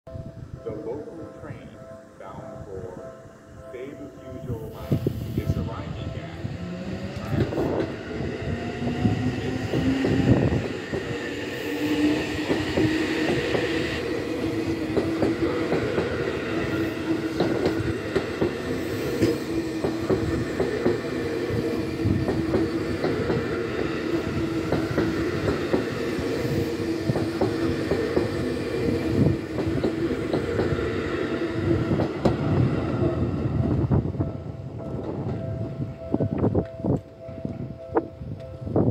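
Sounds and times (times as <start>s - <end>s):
electric train whine: 0.1s - 38.9s.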